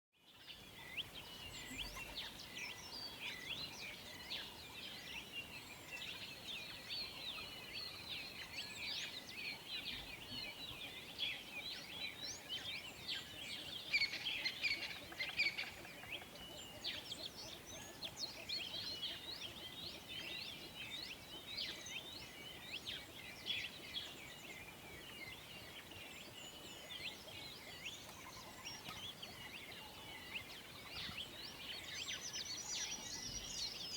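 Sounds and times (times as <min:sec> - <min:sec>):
birds chirping: 0:00.2 - 0:33.9.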